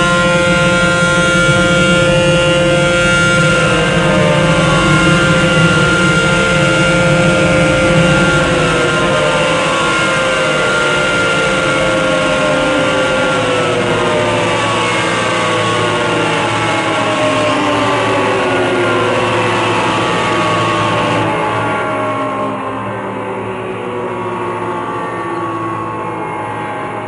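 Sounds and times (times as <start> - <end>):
dryer blowers rushing and whining: 0.0 - 27.0.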